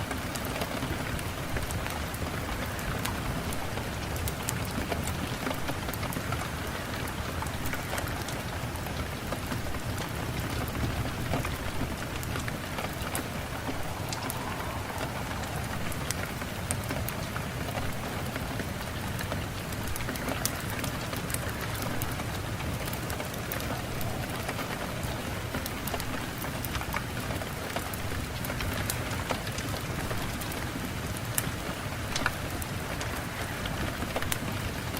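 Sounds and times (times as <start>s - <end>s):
rain pattering on a surface: 0.0s - 34.9s.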